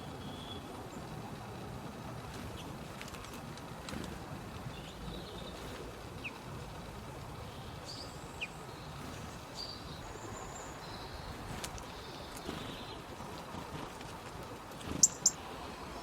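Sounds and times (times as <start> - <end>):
low background rumble: 0.0 - 16.0
songbirds chirping: 0.0 - 16.0.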